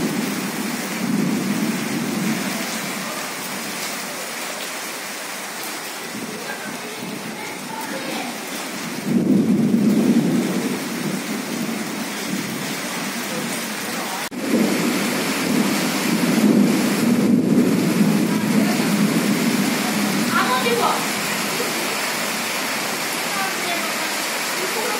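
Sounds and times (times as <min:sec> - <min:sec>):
thunder rumbling: 0:00.0 - 0:04.2, 0:06.0 - 0:24.9
steady rain: 0:00.0 - 0:24.9.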